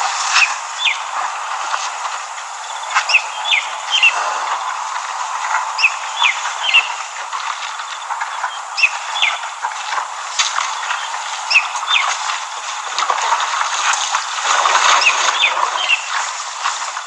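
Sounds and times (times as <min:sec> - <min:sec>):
crackles and clicks: 0:00.0 - 0:17.0
steady rushing hiss: 0:00.0 - 0:17.0.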